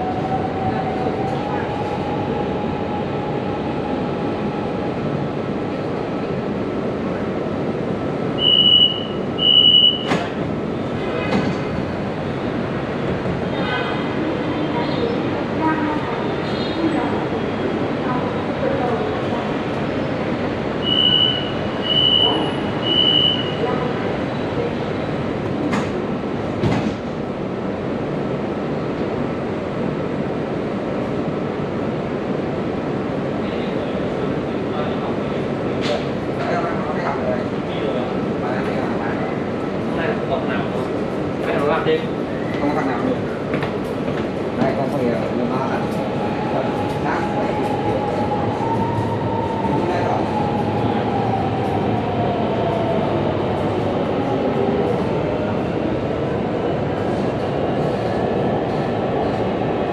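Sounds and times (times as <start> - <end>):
metro train rumbling: 0.0 - 59.9.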